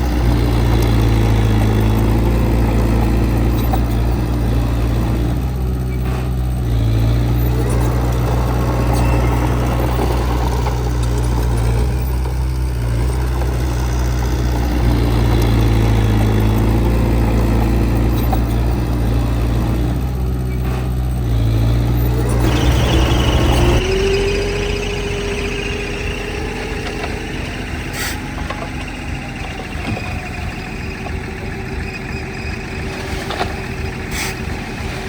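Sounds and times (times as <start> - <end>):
high-pitched whine: 0.0 - 19.6, 21.6 - 34.8
diesel engine of earthmoving equipment: 0.0 - 35.0.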